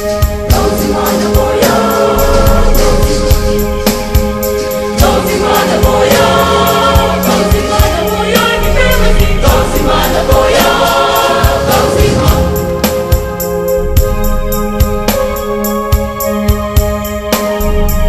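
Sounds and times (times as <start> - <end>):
choir-like singing over a beat: 0.0 - 17.7.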